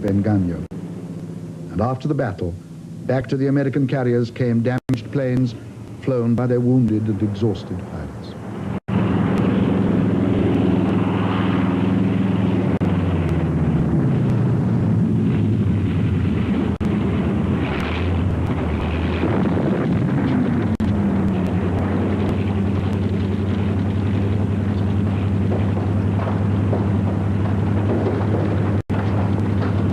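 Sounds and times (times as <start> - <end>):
propeller aircraft engines droning: 0.0 - 29.9.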